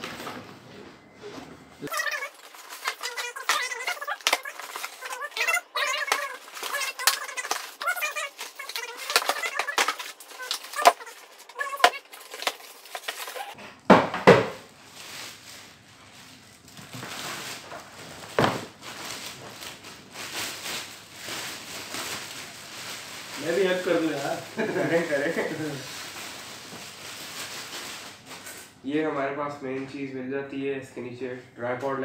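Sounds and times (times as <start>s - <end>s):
cardboard and plastic rustling: 0.0s - 28.7s
plastic wrap pulled off: 1.8s - 13.6s, 14.6s - 28.6s.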